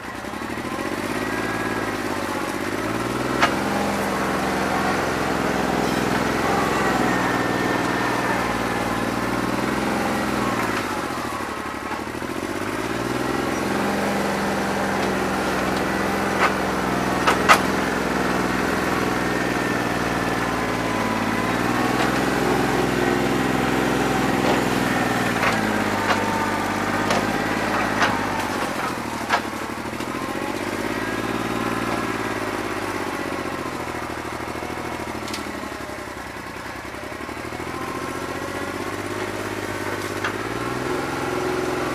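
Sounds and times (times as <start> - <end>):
diesel tractor engine misfiring: 0.0 - 41.9.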